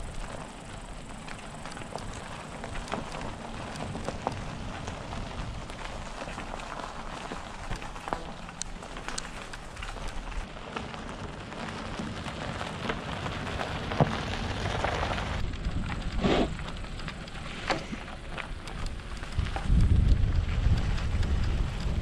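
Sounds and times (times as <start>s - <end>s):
bicycle tyres rolling on road: 0.0s - 22.0s
small clicks and rattles: 0.0s - 22.0s.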